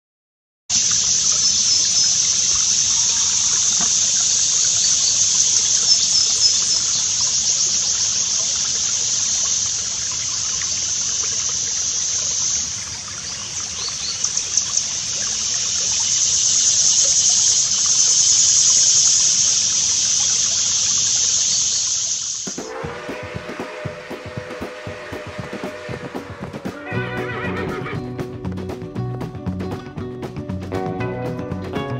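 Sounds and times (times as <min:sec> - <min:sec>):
insects shrill hiss: 0:00.7 - 0:27.8.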